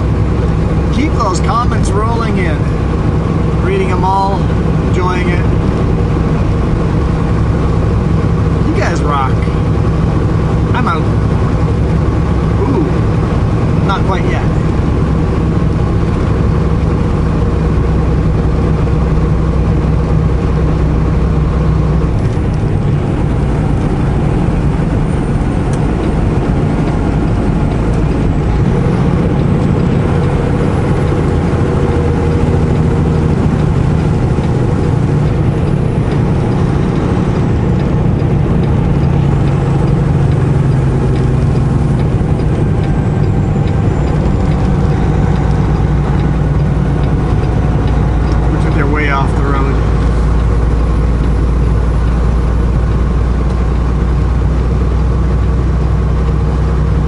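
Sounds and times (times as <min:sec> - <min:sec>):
road noise: 0:00.0 - 0:57.0
truck diesel engine running: 0:00.0 - 0:57.0.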